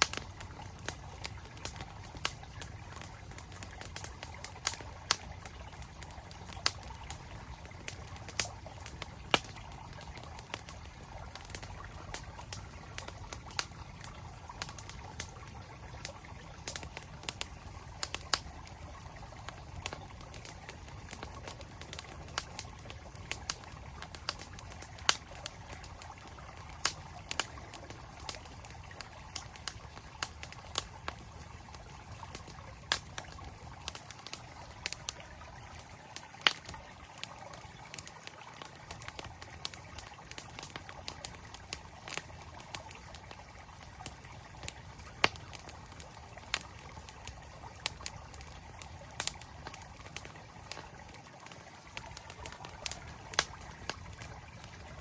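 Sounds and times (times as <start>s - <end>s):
campfire wood crackling: 0.0s - 55.0s.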